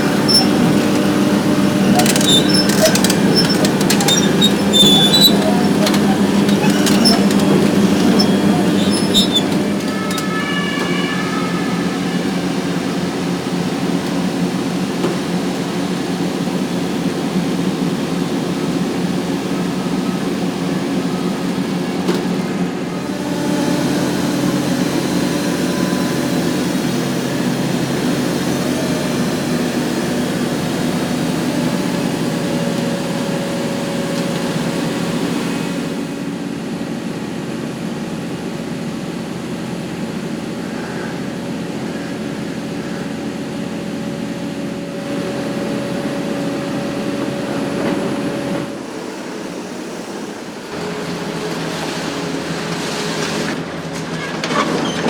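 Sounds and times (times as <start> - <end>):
hydraulic whine: 0.0 - 37.3, 38.2 - 55.0
excavator engine running: 0.0 - 55.0.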